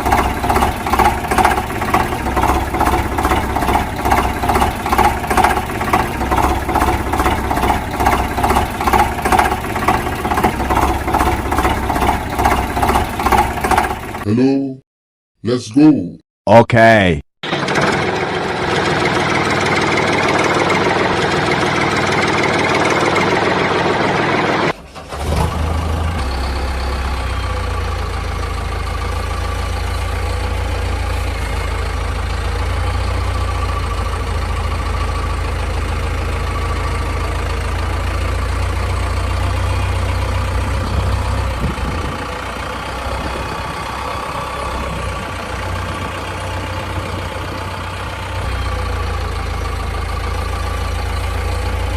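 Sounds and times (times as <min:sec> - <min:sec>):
engine idling: 0:00.0 - 0:14.3, 0:17.4 - 0:51.9.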